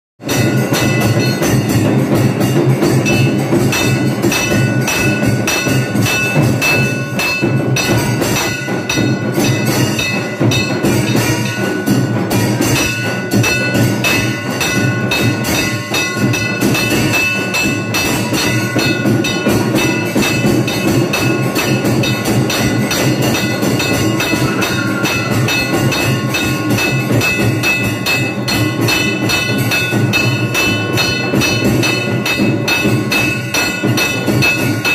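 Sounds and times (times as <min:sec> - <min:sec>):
bells ringing: 0:00.2 - 0:34.9
clanging percussion: 0:00.2 - 0:34.9
rapid drumming: 0:00.2 - 0:34.9.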